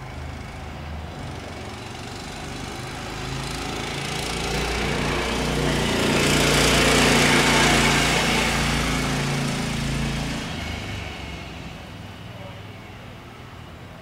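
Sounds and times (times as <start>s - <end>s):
small engine running: 0.1s - 11.8s.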